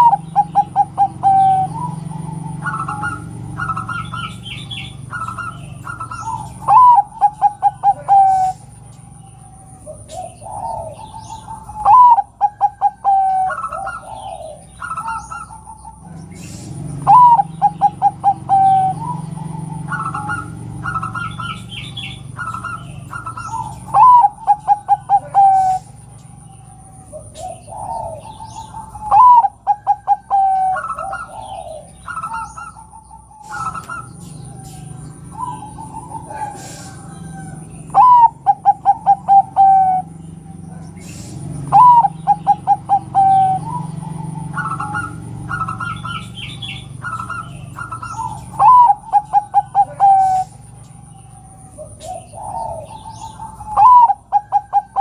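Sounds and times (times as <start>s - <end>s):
dove cooing: 0.0s - 55.0s
high bird chirps: 0.0s - 55.0s.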